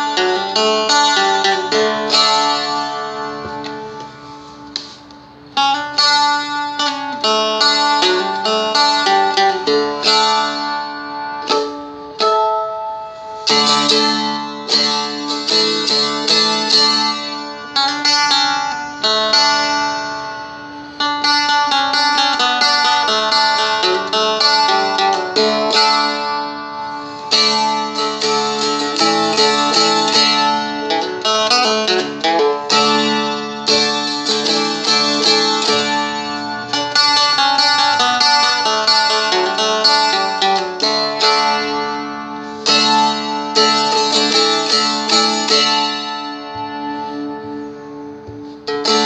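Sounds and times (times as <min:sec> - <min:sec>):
strumstick strummed and picked: 0:00.0 - 0:49.0.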